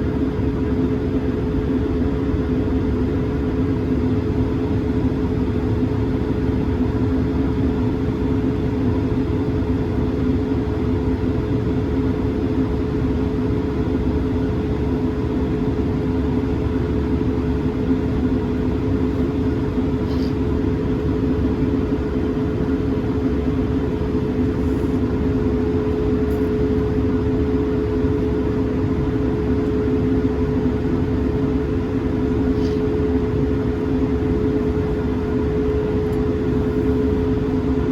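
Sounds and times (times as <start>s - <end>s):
aircraft cabin engine drone: 0.0s - 37.9s.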